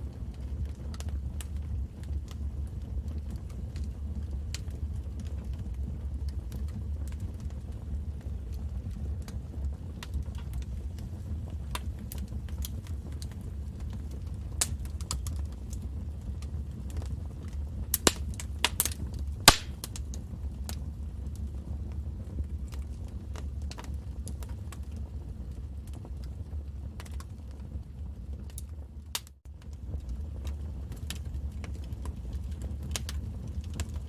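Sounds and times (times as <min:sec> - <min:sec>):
low steady rumble: 0:00.0 - 0:34.0
wood fire crackling and popping: 0:00.0 - 0:34.0.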